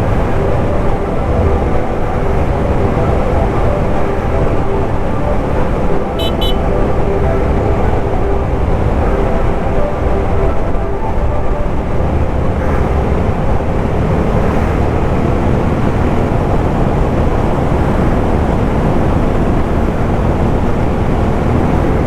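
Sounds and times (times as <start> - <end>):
road noise: 0.0 - 22.0
wind rush on microphone: 0.0 - 22.0.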